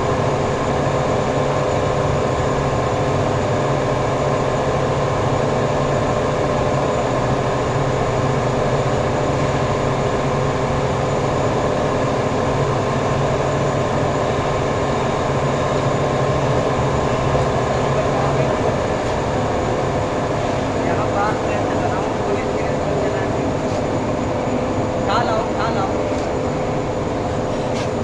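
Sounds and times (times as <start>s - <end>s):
workshop machinery humming: 3.6s - 28.0s.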